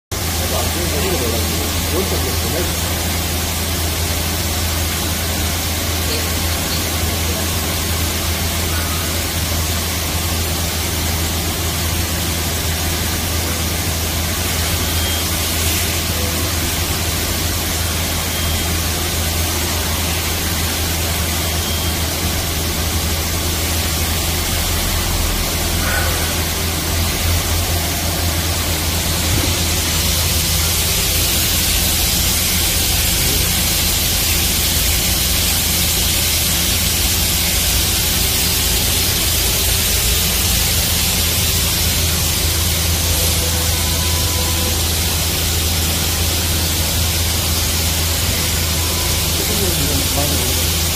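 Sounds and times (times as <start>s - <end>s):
low machine hum: 0.1s - 50.9s
machining center hiss: 0.1s - 50.9s.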